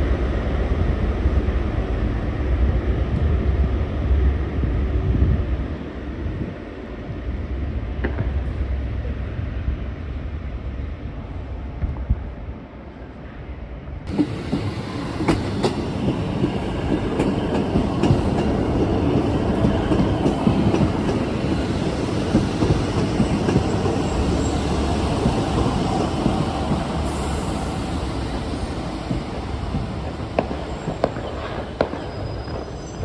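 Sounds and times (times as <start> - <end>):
train rumbling along track: 0.0 - 33.0.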